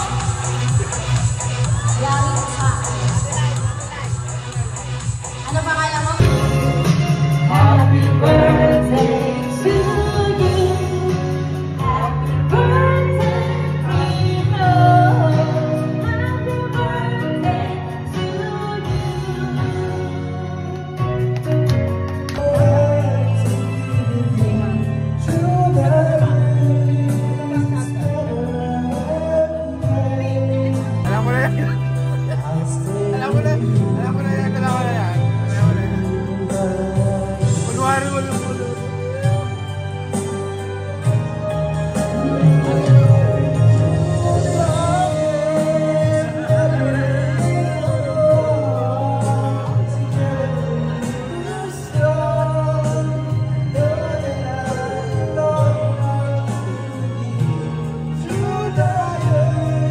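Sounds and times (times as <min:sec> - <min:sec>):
amplified backing music: 0:00.0 - 0:59.9
person singing through microphone: 0:05.5 - 0:21.2, 0:22.4 - 0:59.9.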